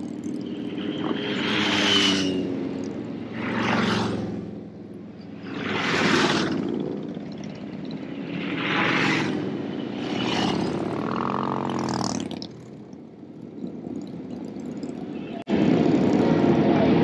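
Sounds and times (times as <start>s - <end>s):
motorcycles riding past: 0.0s - 17.0s.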